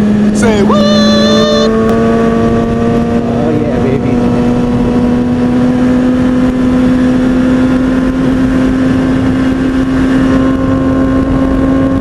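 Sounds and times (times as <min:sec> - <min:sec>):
motorcycle engine at high revs: 0:00.0 - 0:12.0
wind and road noise: 0:00.0 - 0:12.0.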